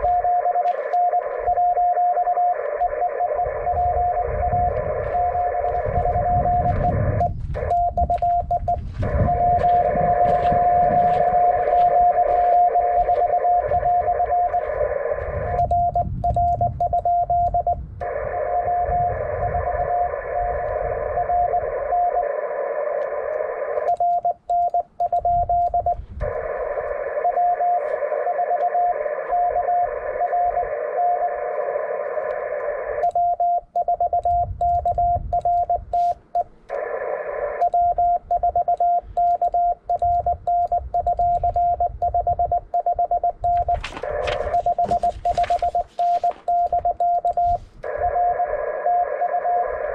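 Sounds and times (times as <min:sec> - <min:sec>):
morse code beeps: 0:00.0 - 0:22.3, 0:23.7 - 0:31.5, 0:32.3 - 0:49.9
radio static hiss: 0:00.0 - 0:24.0, 0:25.7 - 0:33.1, 0:35.7 - 0:39.2, 0:43.3 - 0:49.9.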